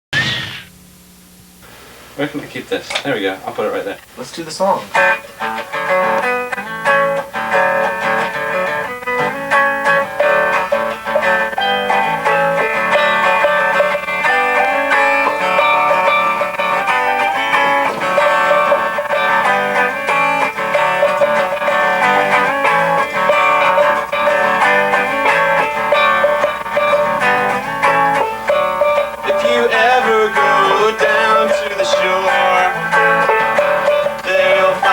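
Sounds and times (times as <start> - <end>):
plucked guitar tune: 4.9 - 34.9.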